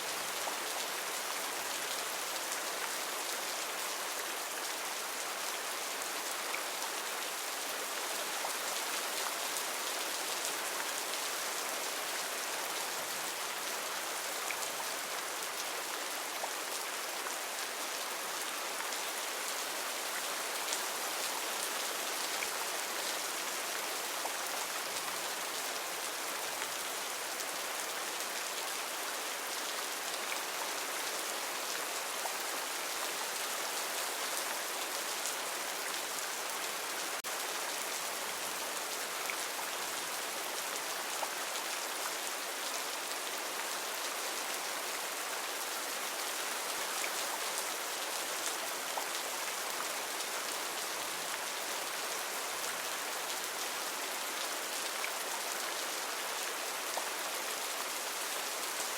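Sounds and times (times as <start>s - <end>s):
heavy rain on foliage: 0.0s - 58.9s.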